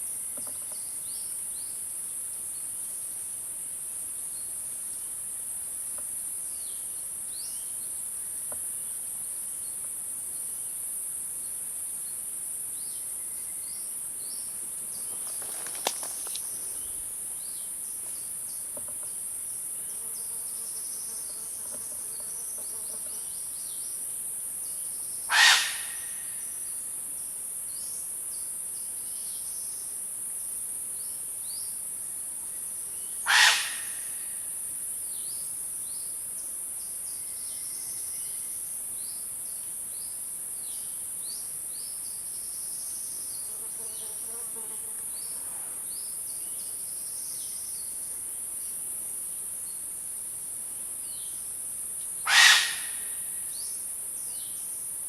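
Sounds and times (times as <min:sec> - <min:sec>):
insect trill: 0:00.0 - 0:55.0.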